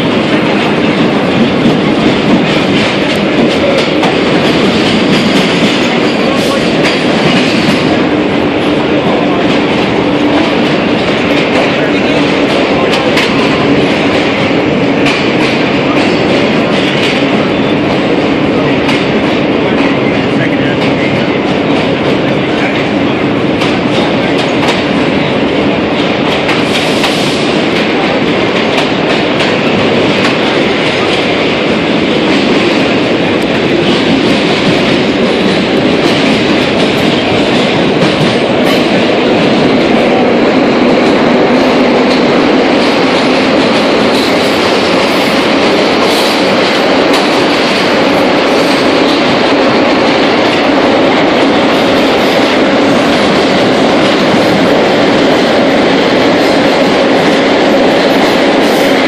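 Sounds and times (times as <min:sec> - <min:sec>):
subway car rushing through tunnel: 0:00.0 - 0:59.0.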